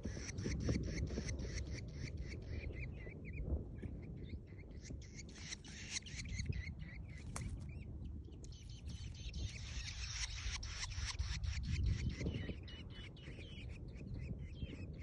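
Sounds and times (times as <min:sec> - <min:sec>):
nestlings begging calls: 0:00.0 - 0:15.0.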